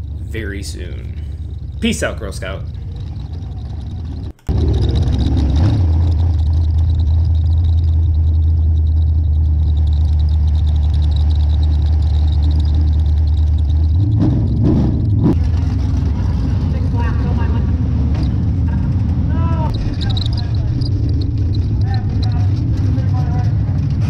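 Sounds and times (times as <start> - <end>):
engine throttle blips: 0.0 - 24.0
race car engine running: 0.0 - 24.0.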